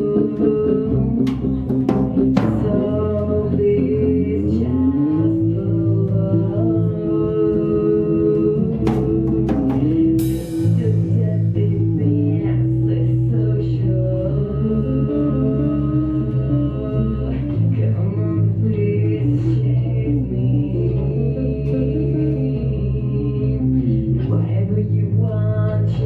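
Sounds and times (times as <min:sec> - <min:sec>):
bass guitar: 0:00.0 - 0:26.0
electric guitar: 0:00.0 - 0:26.0.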